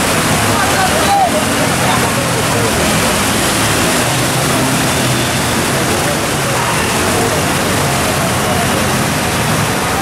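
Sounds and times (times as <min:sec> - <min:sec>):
floodwater rushing: 0:00.0 - 0:10.0
vehicles churning through water: 0:00.0 - 0:10.0.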